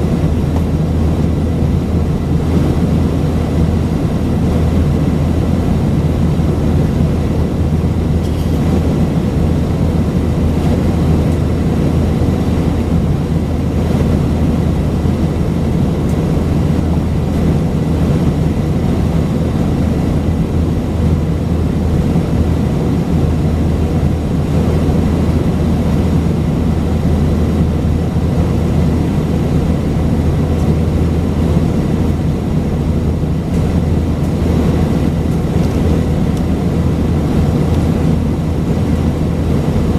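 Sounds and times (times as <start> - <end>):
airplane cabin engine drone: 0.0 - 39.9
faint high engine whine: 0.0 - 39.9.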